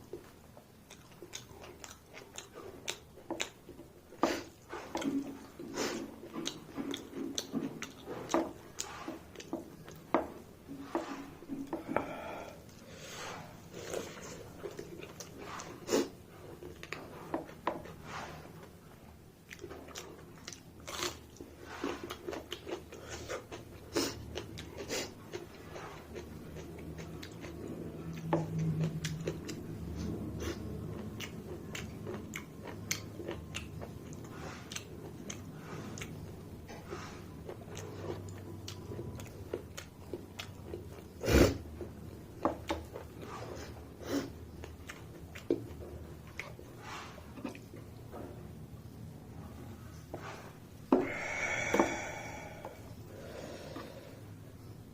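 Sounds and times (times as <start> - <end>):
close-up chewing: 0.0 - 48.3.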